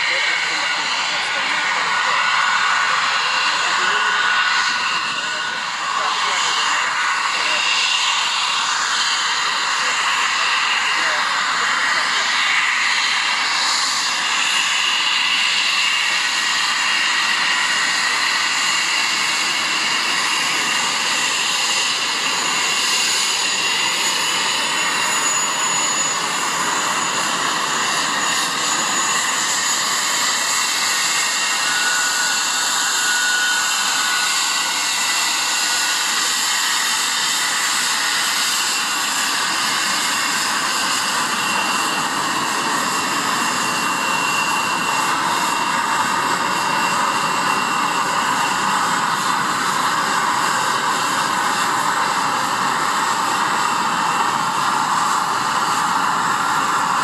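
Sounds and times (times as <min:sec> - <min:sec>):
high jet engine whine: 0:00.0 - 0:57.0
jet engines rushing hiss: 0:00.0 - 0:57.0.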